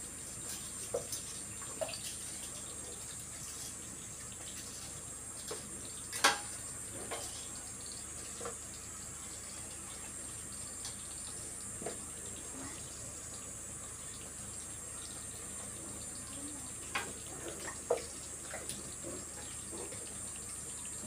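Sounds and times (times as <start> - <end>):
watery hiss from stove: 0.0 - 21.0.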